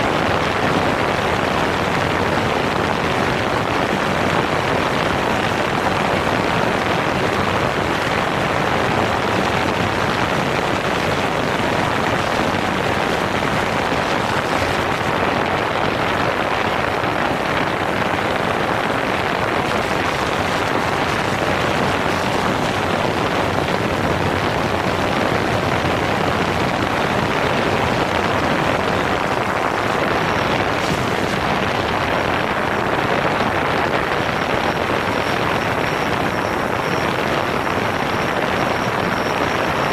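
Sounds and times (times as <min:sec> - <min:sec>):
wind blowing over microphone: 0:00.0 - 0:39.9
drone propeller wash: 0:00.1 - 0:39.9.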